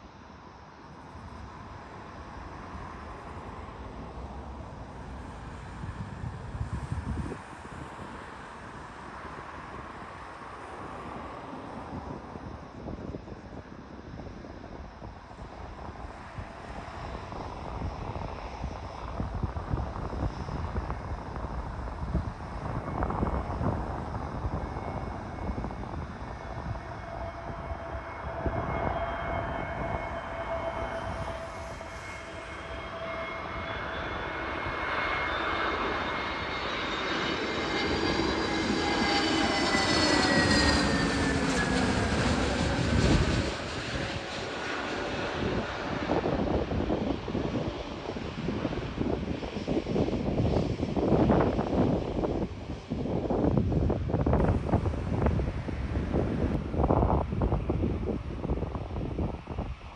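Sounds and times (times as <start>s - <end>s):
jet engines rushing with whine: 0.0s - 59.9s.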